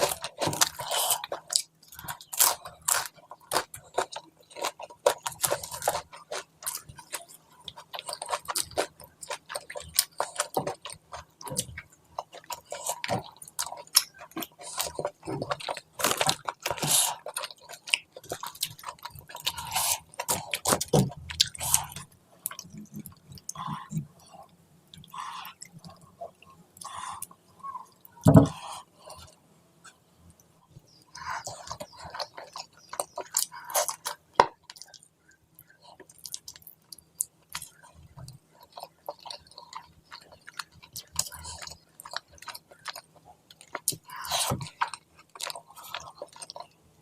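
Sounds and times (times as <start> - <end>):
chewing and crunching food: 0.0 - 47.0.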